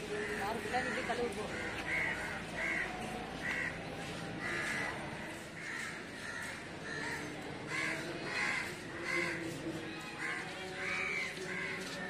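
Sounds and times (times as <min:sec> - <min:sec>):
crows cawing: 0:00.0 - 0:09.6, 0:10.2 - 0:12.0.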